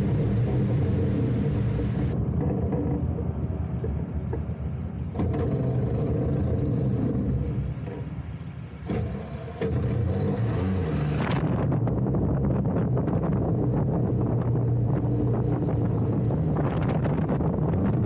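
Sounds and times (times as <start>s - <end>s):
ultralight engine and propeller: 0.0s - 18.0s.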